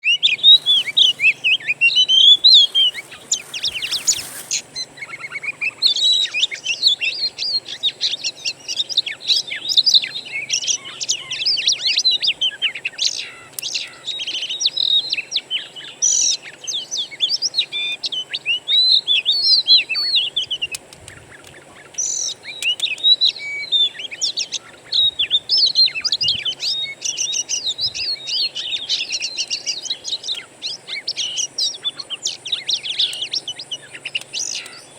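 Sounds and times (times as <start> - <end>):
songbird whistles and trills: 0.0 - 34.9.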